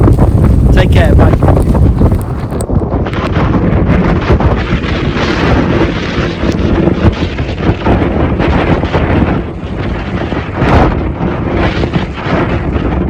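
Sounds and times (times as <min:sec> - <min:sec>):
strong gusting wind on microphone: 0:00.0 - 0:13.0.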